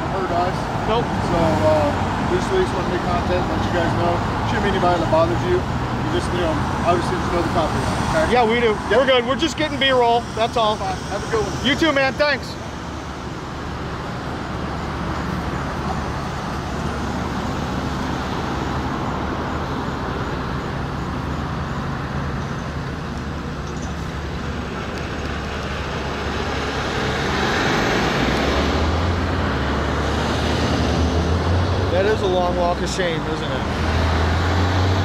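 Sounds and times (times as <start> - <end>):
cars driving past: 0.0 - 35.0.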